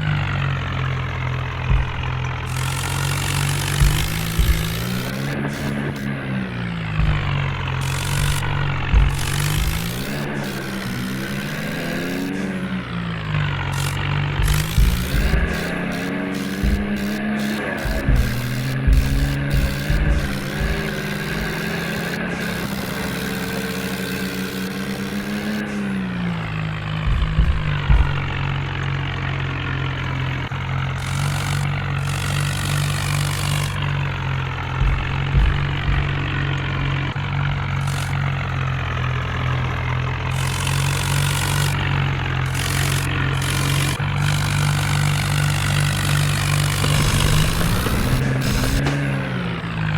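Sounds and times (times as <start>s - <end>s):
engine-like hum: 0.0s - 49.9s
low thumps: 1.1s - 22.8s, 26.1s - 28.8s, 31.0s - 49.9s.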